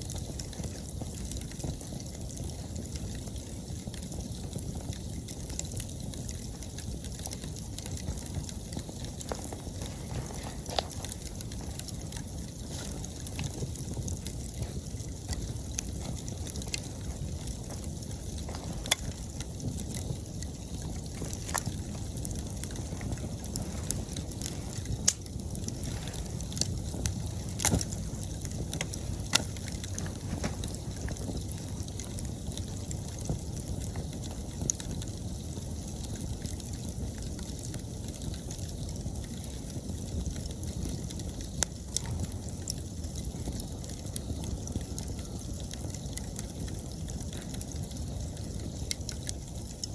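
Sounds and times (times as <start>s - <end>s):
fire crackles and pops: 0.0s - 49.9s
wood fire rushing: 0.0s - 49.9s.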